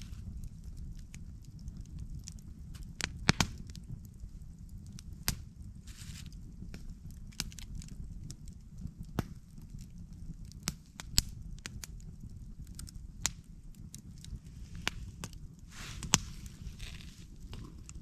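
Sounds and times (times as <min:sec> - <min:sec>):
campfire pops and snaps: 0:00.0 - 0:18.0
fire low rumble: 0:00.0 - 0:18.0.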